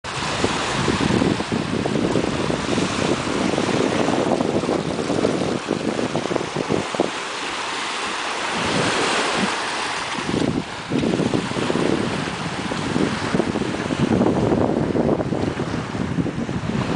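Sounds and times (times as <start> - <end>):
sea waves lapping on beach: 0.0 - 16.9
wind buffeting microphone: 0.0 - 16.9.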